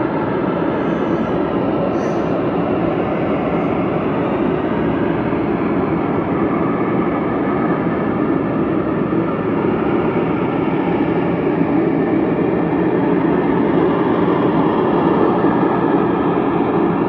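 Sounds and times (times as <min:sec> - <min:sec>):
loud rumbling drone: 0:00.0 - 0:17.0.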